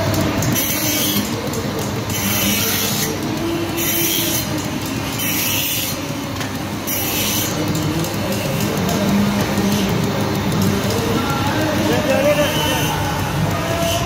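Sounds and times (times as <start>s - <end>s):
grinding machine humming: 0.0s - 14.0s.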